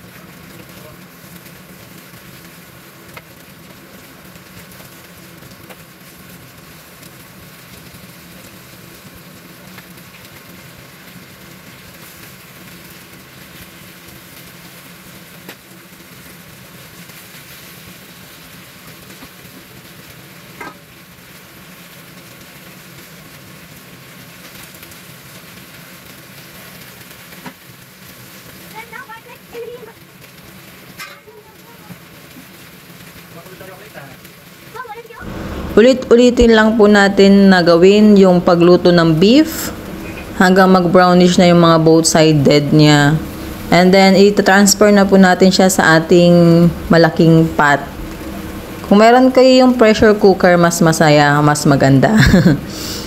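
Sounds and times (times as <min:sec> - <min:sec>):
beef sizzling in a frying pan: 0:00.0 - 0:53.0.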